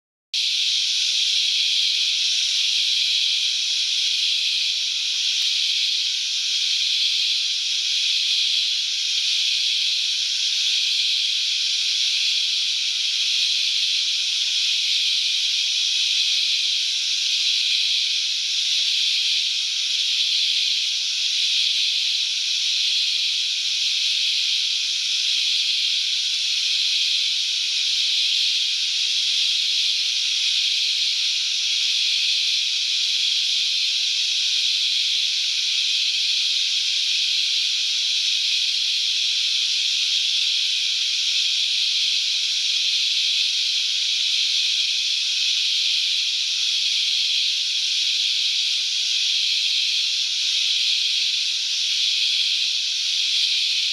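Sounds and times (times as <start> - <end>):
insect chorus hissing: 0.4 - 53.9.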